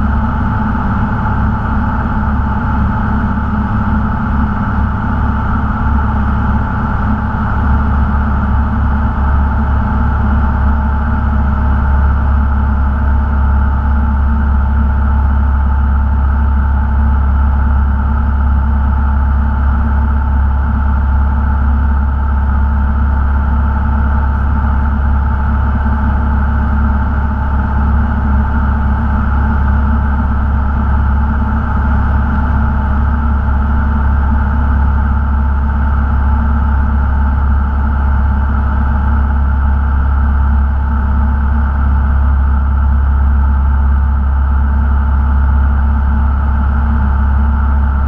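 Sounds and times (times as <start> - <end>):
airplane engine drone in cabin: 0.0 - 48.0.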